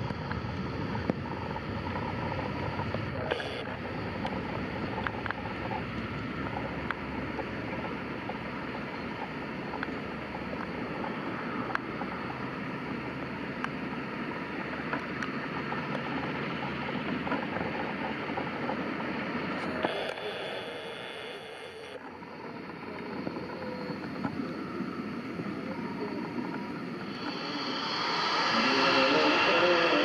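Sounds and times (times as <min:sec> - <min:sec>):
distant jet engines roaring: 0:00.0 - 0:30.0.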